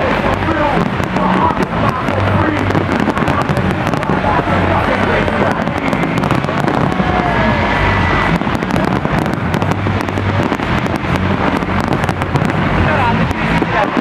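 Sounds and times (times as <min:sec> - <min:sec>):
fireworks bangs and crackles: 0:00.0 - 0:14.0
fireworks rumble: 0:00.0 - 0:14.0
music: 0:00.0 - 0:14.0.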